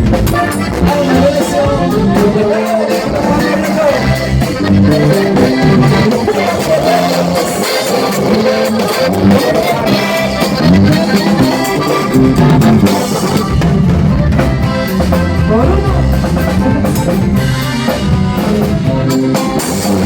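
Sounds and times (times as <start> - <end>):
latin band instrumental: 0.0 - 20.0.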